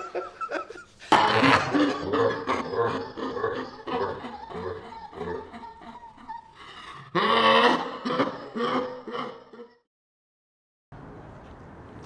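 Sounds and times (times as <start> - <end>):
men laughing: 0.0 - 9.8.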